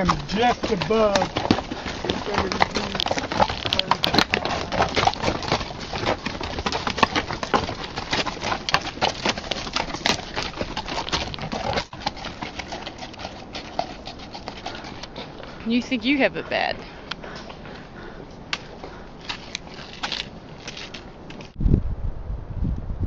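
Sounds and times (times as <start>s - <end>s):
mule hooves clopping on rocks: 0.0s - 21.6s.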